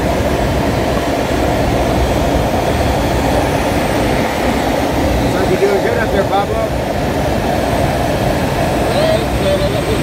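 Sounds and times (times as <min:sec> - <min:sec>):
rushing airflow in cockpit: 0:00.0 - 0:10.0.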